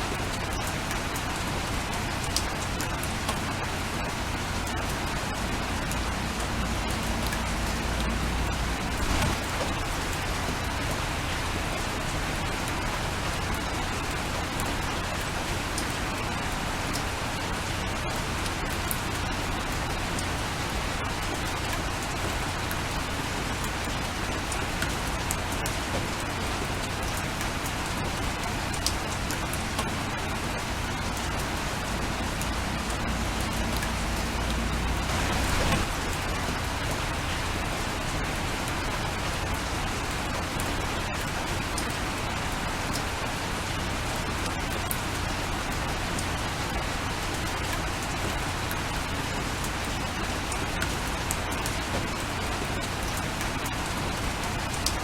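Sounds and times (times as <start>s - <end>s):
raindrops ticking on a window: 0.0s - 55.0s.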